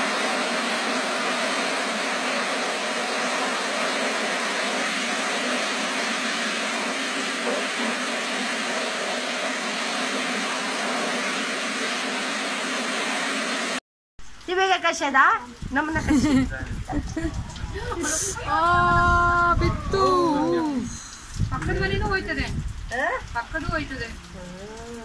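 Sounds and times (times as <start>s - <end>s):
floodwater rushing: 0.0s - 13.8s, 14.5s - 25.0s.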